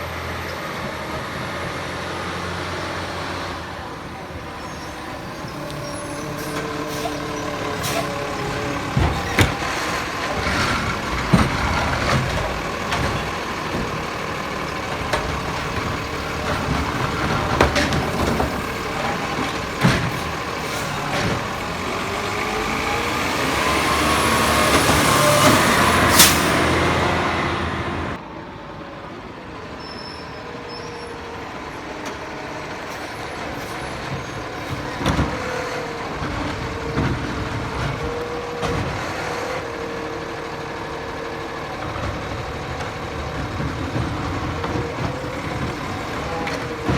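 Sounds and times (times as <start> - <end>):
garbage truck running: 0.0 - 46.9.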